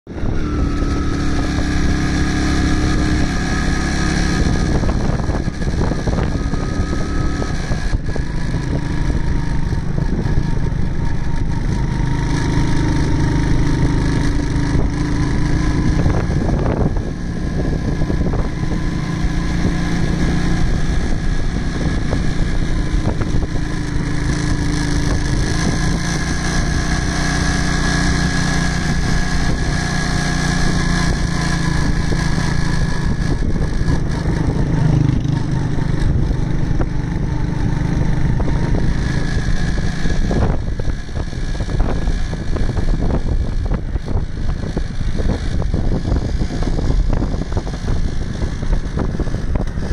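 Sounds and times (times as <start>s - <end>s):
vehicle engine running: 0.0s - 49.9s
wind noise on microphone: 0.1s - 49.9s.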